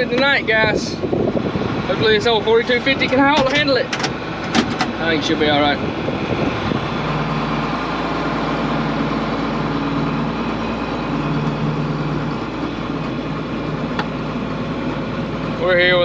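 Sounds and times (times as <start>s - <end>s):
diesel tractor engine under load: 0.0s - 16.0s.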